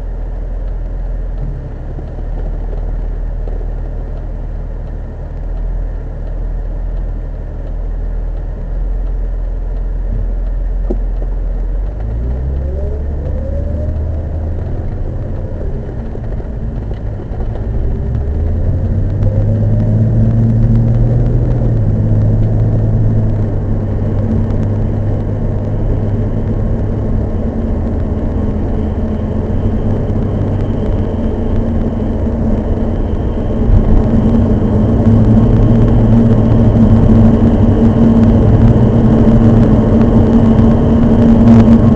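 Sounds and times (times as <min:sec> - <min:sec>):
car engine: 0:00.0 - 0:41.9
road noise: 0:00.0 - 0:41.9.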